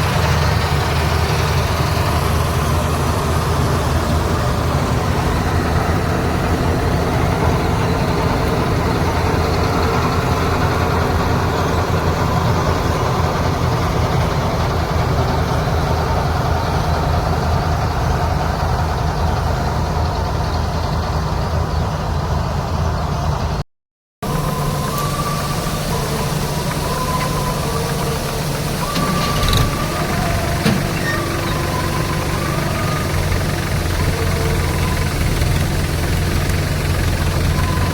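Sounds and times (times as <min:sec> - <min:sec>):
combine harvester engine running: 0:00.0 - 0:23.6, 0:24.2 - 0:37.9.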